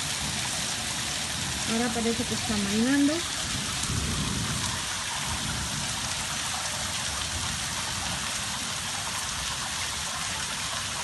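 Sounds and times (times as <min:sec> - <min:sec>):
rain falling: 0:00.0 - 0:11.0
rainwater running down street: 0:00.0 - 0:11.0.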